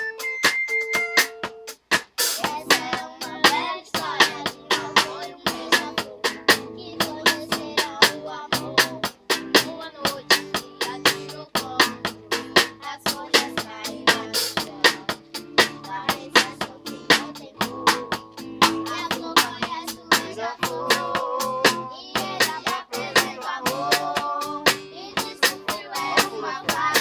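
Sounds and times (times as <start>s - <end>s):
quick percussion beat: 0.0s - 27.0s.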